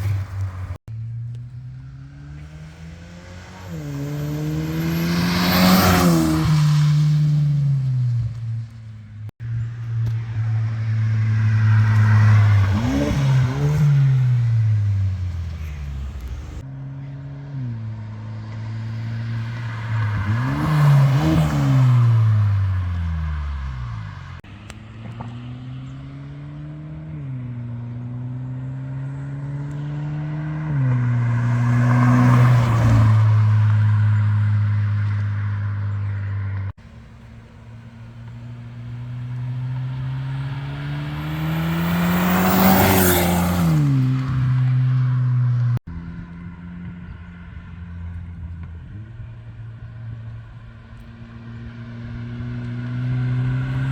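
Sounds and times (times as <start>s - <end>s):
car engine revving: 0.0s - 8.8s, 9.5s - 53.9s.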